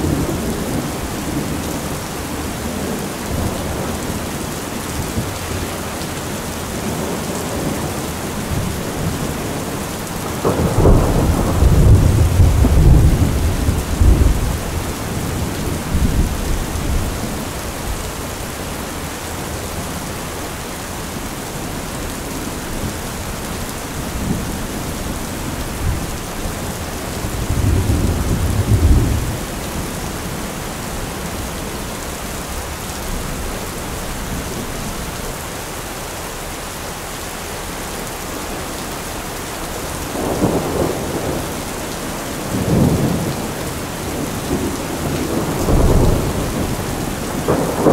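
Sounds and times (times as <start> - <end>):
thunder rumbling: 0.0 - 20.6, 21.2 - 35.3, 38.4 - 47.9
steady rain: 0.0 - 47.9.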